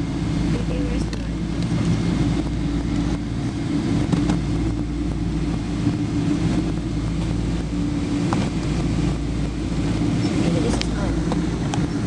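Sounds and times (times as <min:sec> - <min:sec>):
jet engine cabin drone: 0:00.0 - 0:12.0
low hum tones: 0:00.0 - 0:12.0.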